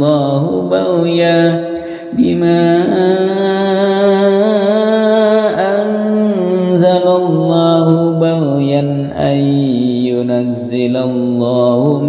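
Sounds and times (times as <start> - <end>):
person chanting a recitation: 0.0 - 12.0.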